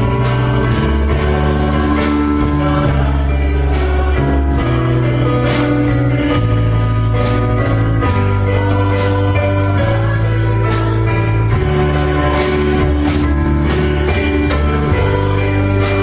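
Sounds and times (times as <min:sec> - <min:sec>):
worship band playing: 0:00.0 - 0:16.0.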